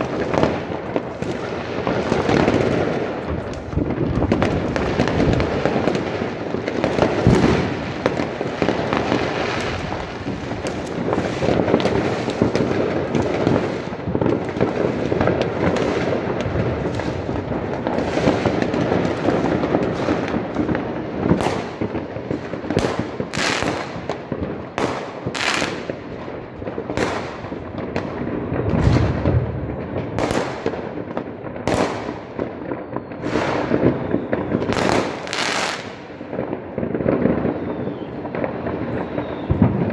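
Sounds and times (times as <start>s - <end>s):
firework bangs: 0.0s - 39.9s
fireworks crackling: 0.0s - 39.9s.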